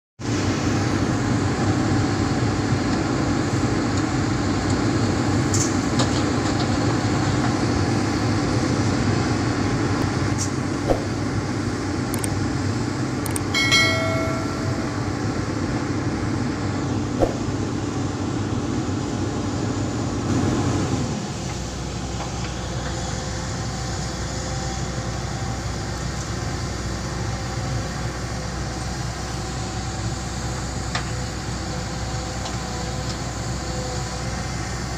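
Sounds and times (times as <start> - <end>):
excavator diesel engine droning: 0.3 - 34.9.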